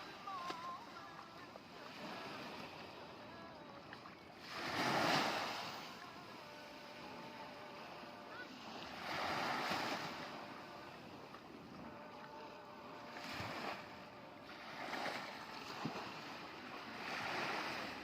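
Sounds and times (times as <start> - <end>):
steady surf: 0.0 - 18.0
waves surging on shore: 0.0 - 18.0.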